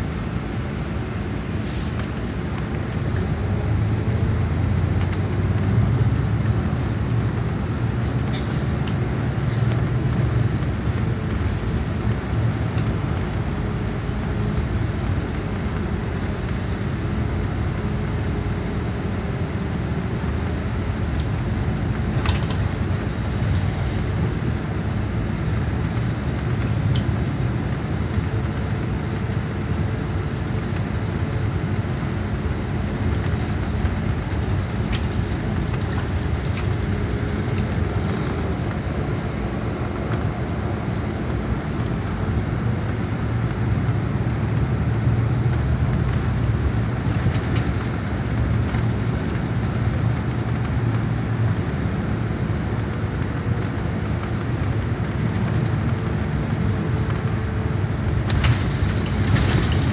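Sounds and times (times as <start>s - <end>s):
bus engine rumble and tyres: 0.0s - 59.9s.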